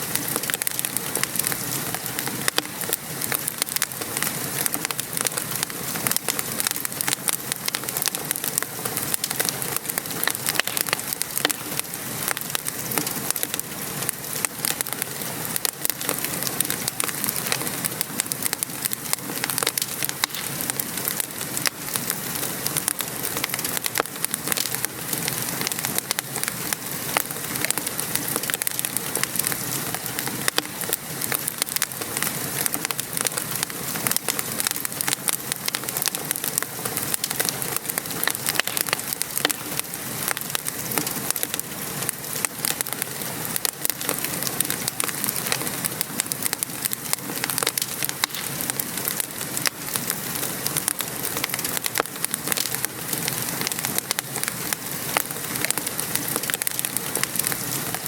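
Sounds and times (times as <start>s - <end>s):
rain falling: 0.0s - 58.0s
wood fire crackling and popping: 0.0s - 58.0s.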